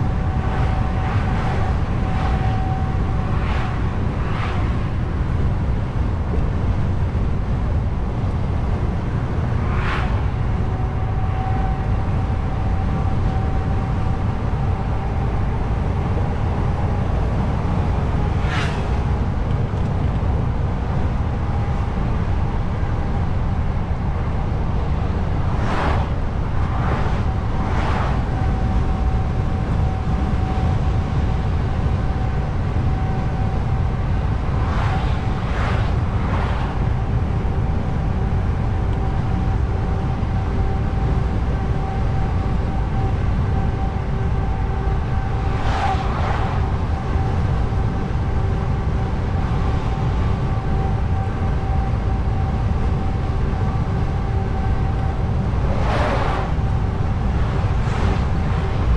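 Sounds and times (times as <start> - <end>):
faint steady whine: 0.0 - 58.9
truck engine and tyre noise: 0.0 - 58.9.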